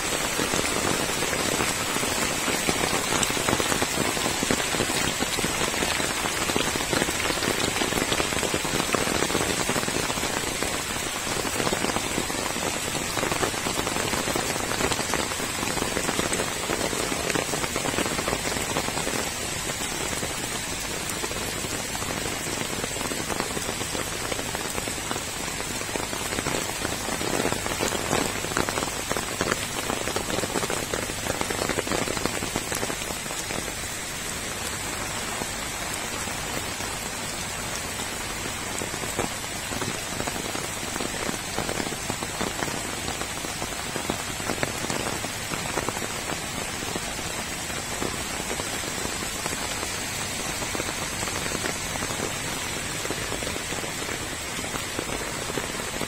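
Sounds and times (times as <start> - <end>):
steady rain on wet ground: 0.0 - 56.0.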